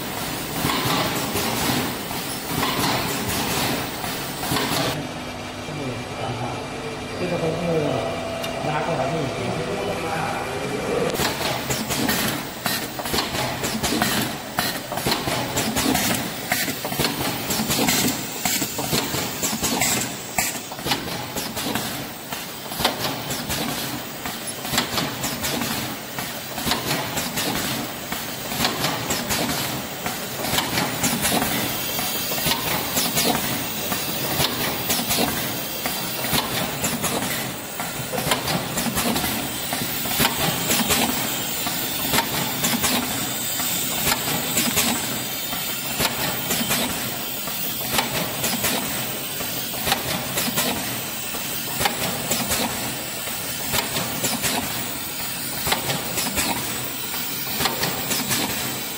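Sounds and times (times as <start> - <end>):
packaging machine clattering: 11.2 - 58.9.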